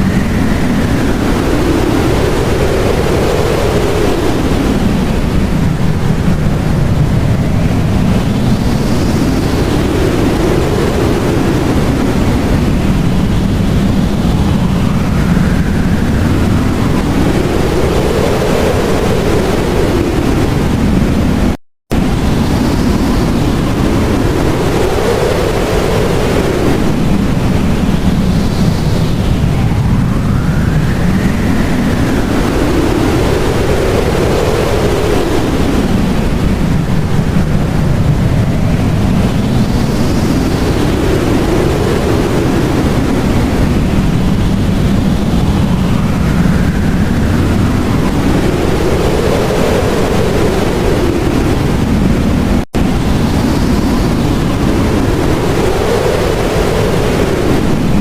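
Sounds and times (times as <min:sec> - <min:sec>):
blizzard wind blowing hard: 0:00.0 - 0:58.0.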